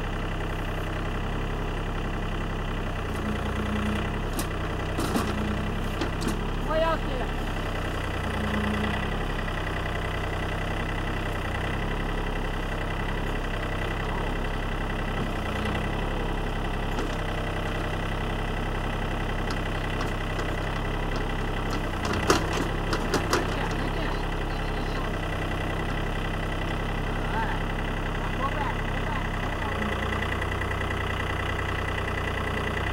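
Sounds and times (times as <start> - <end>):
tractor engine running: 0.0 - 32.9
backhoe digging soil: 2.8 - 32.9.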